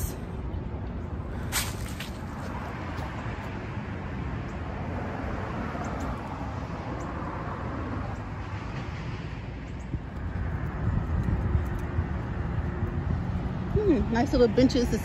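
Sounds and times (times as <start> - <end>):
city traffic hum: 0.0 - 15.0.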